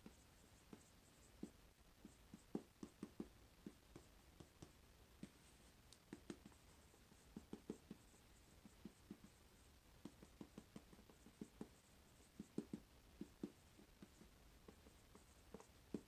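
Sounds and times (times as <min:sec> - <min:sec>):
marker pen writing on whiteboard: 0:00.0 - 0:16.0.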